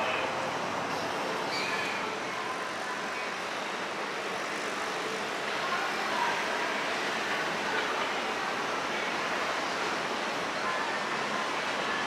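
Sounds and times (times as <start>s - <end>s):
trains rumbling: 0.0s - 12.0s.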